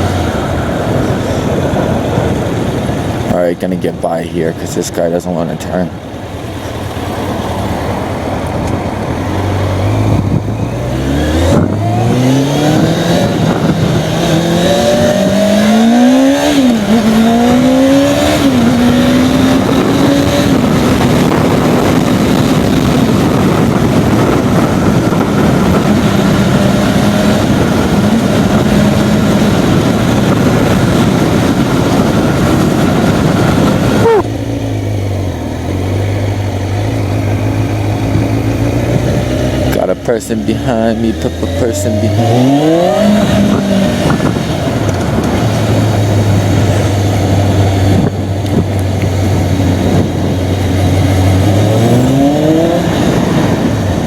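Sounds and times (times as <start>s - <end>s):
wind noise on microphone: 0.0s - 3.5s, 6.9s - 39.8s, 40.7s - 54.0s
motorcycle engine accelerating: 5.7s - 54.0s.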